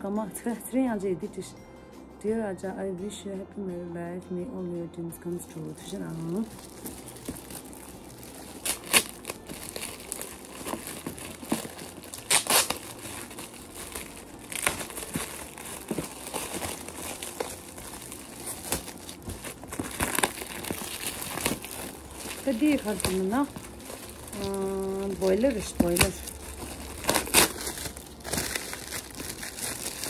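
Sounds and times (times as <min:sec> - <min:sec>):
gift wrapping crinkling: 0:05.6 - 0:30.0.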